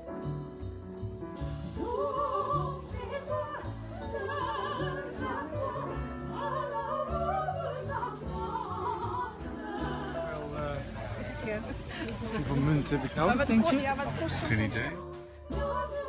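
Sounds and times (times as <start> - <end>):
operatic singing with vibrato: 1.7 - 16.0.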